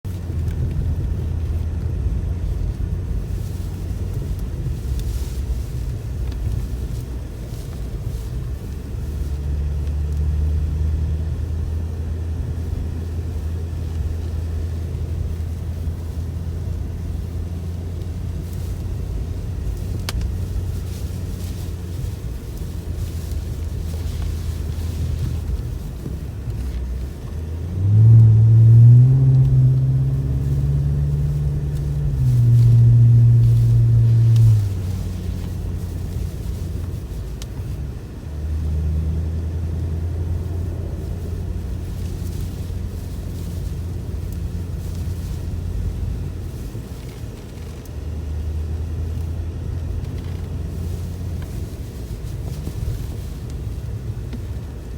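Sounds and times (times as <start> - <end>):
car engine under throttle: 0.0 - 54.9
low rumble: 0.0 - 54.9.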